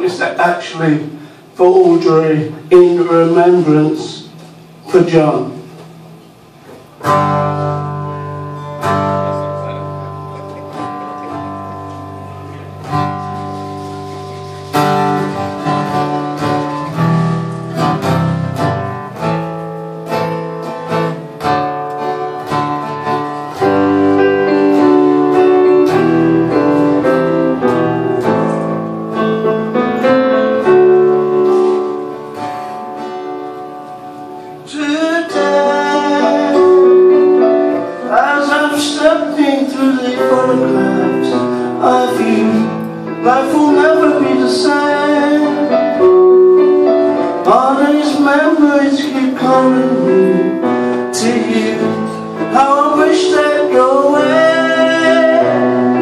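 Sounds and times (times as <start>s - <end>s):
live band slow guitar song: 0.0s - 56.0s.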